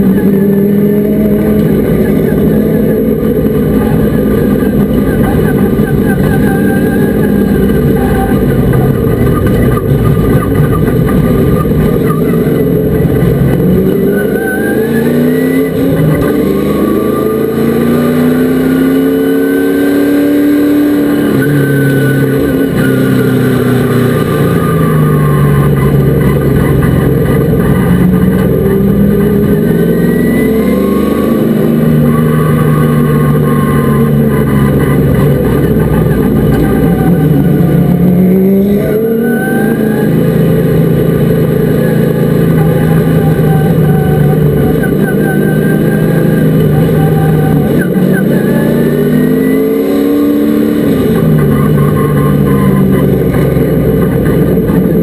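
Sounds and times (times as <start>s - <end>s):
race truck engine accelerating: 0.0s - 55.0s.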